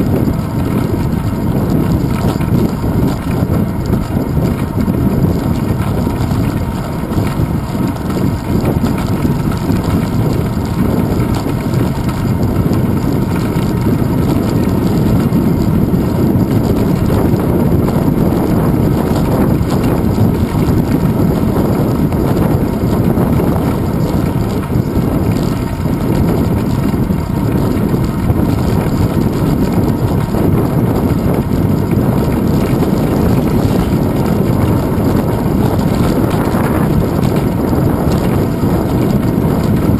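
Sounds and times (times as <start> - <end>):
tyres rumbling over paving stones: 0.0 - 39.9
wind buffeting microphone: 0.0 - 39.9.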